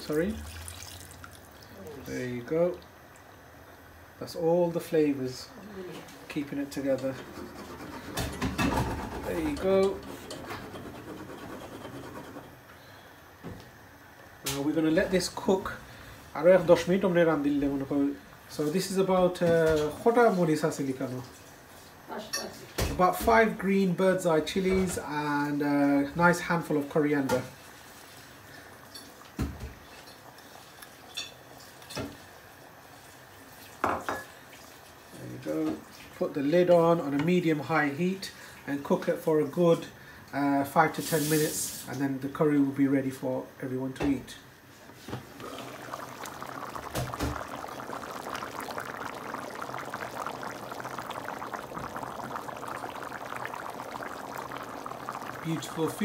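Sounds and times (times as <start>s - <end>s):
curry bubbling and popping: 0.0s - 4.4s, 6.0s - 12.6s, 13.4s - 39.1s, 44.0s - 56.0s.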